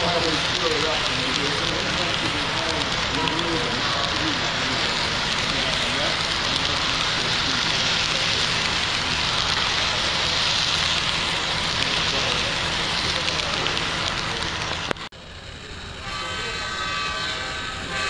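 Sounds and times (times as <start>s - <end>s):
model train wheels on rails: 0.0s - 18.0s
people talking: 0.0s - 18.0s.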